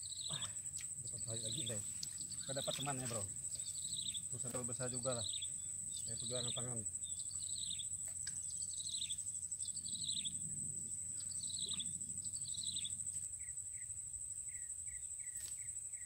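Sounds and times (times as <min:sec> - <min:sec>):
bird chirps: 0:00.0 - 0:13.9
high-pitched insect drone: 0:00.0 - 0:16.0.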